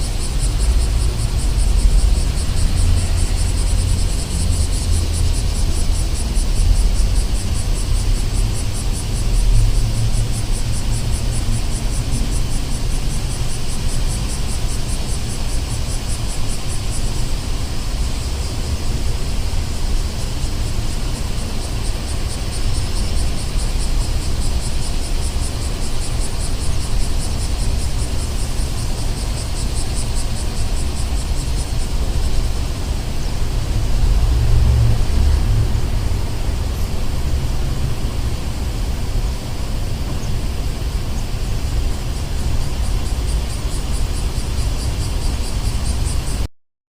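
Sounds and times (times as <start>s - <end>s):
distant traffic rumble: 0.0s - 46.5s.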